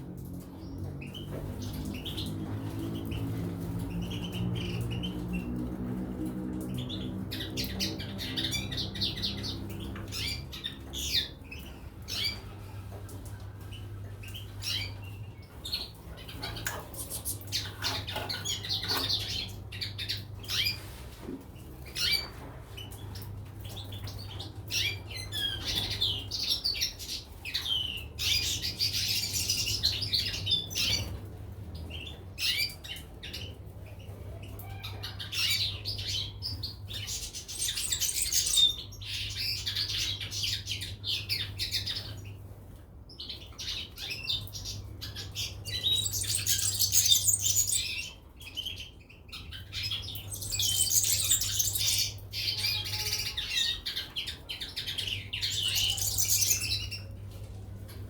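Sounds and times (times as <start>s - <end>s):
caged songbirds twittering: 0.0s - 58.0s.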